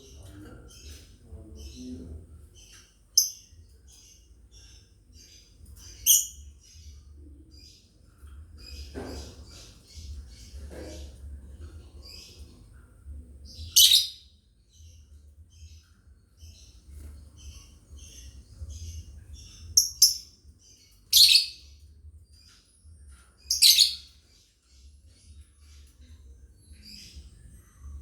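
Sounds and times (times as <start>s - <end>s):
birds twittering: 0.0s - 28.0s.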